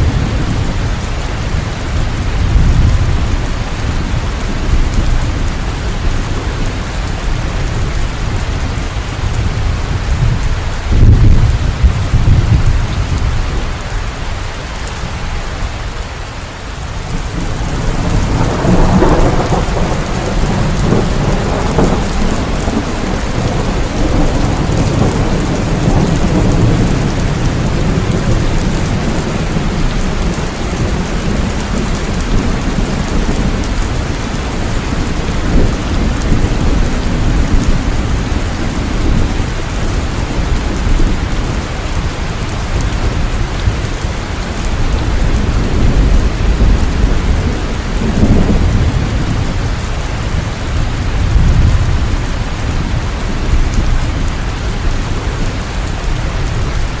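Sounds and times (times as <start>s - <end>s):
thunder rumbling: 0.0s - 15.9s, 17.0s - 57.0s
heavy rain: 0.0s - 57.0s.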